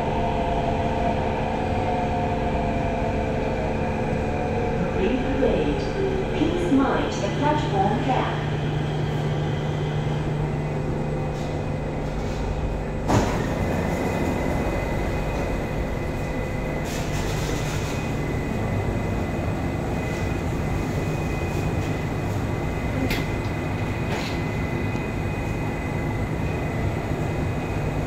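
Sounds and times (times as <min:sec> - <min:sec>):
metro train rumble: 0:00.0 - 0:28.0.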